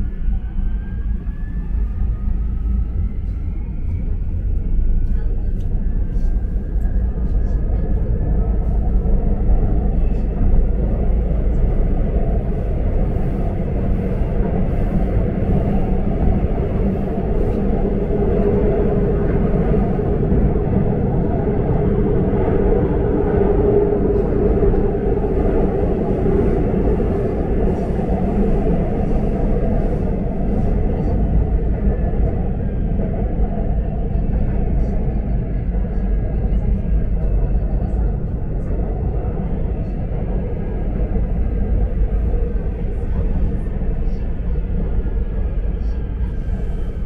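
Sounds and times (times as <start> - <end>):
subway train wheels rumbling: 0.0 - 47.0
train hum: 0.0 - 47.0.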